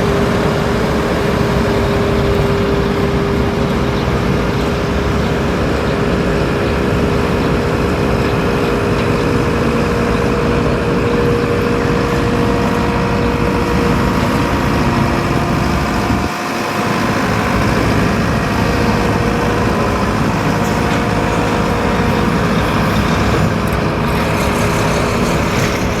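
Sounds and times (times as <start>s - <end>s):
construction machinery diesel rumble: 0.0s - 26.0s.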